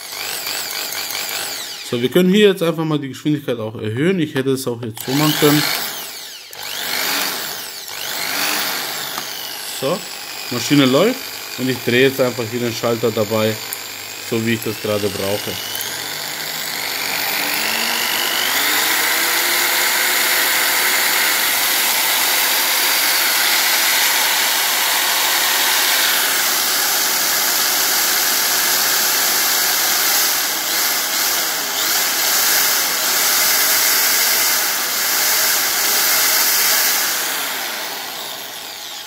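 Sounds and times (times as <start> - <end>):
impact drill motor whining: 0.0 - 2.3, 4.9 - 39.0.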